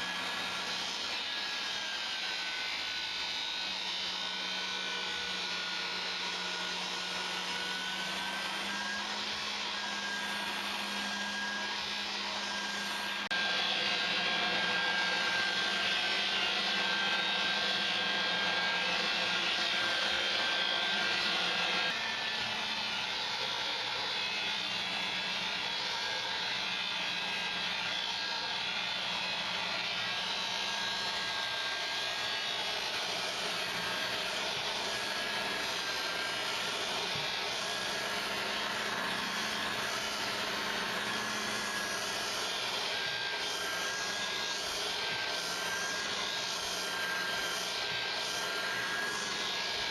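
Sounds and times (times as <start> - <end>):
electric sander whirring: 0.0 - 49.9.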